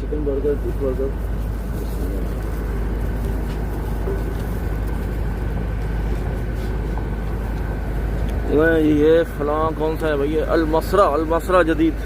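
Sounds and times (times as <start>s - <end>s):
faint constant hum: 0.0s - 12.0s
steady low rumble: 0.0s - 12.0s.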